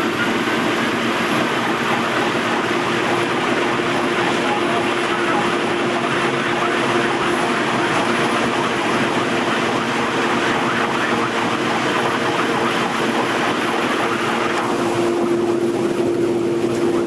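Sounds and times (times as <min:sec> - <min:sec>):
truck engine roar in cab: 0:00.0 - 0:17.0.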